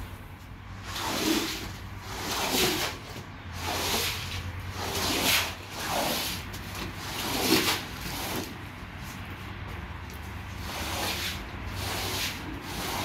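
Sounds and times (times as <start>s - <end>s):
squeegee scraping wet rug: 0.7s - 13.0s.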